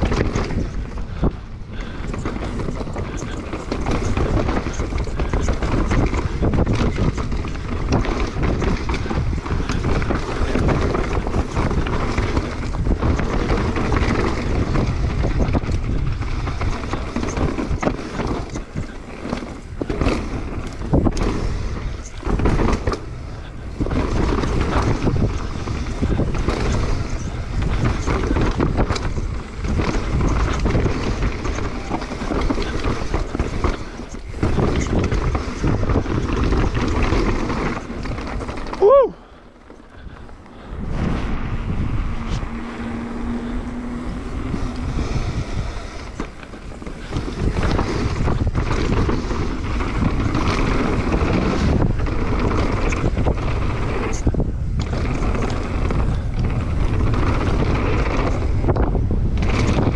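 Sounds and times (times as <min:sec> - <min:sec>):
bike knocks and rattles: 0:00.0 - 0:59.9
bike tyres rolling on dirt: 0:00.0 - 0:59.9
wind buffeting microphone: 0:00.0 - 0:59.9.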